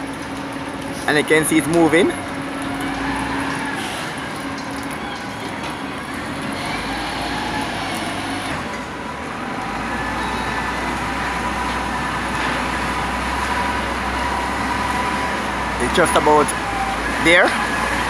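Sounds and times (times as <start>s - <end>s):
vehicle and machinery rumble: 0.0s - 18.0s.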